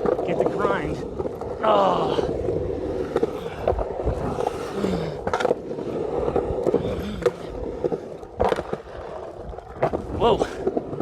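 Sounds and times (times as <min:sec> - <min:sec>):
skateboard clacking: 0:00.0 - 0:01.6, 0:02.2 - 0:11.0
skateboard wheels rumbling: 0:00.0 - 0:11.0.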